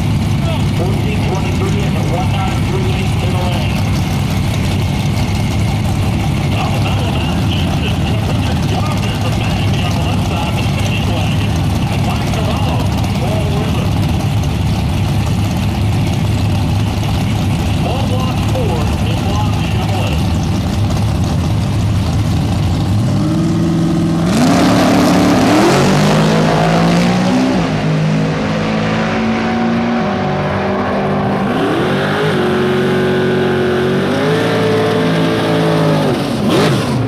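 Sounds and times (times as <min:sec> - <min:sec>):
drag car engine revving: 0:00.0 - 0:37.0.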